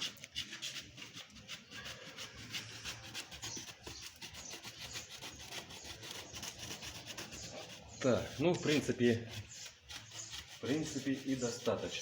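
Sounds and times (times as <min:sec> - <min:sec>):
paintbrush rubbing on concrete: 0:00.0 - 0:12.0.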